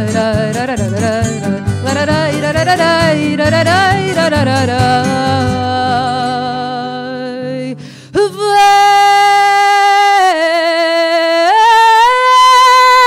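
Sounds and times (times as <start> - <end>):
guitar accompaniment: 0.0 - 13.0
woman singing with vibrato: 0.0 - 13.0.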